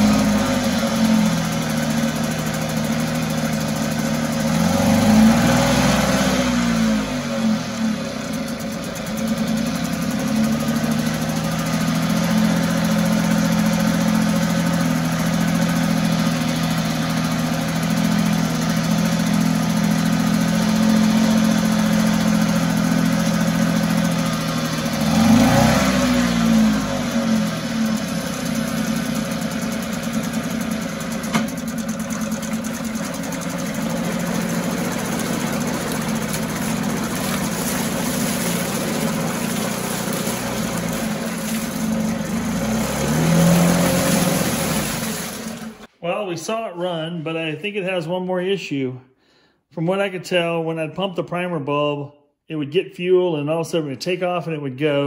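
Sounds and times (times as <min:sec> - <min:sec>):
outboard engine running: 0:00.0 - 0:45.9.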